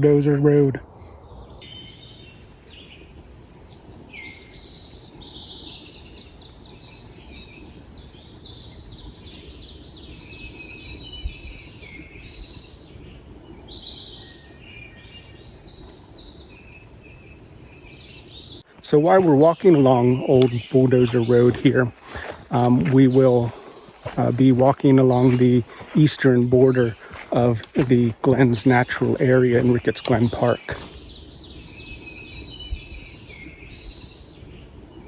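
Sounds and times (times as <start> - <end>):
songbirds singing: 0.0 - 35.0.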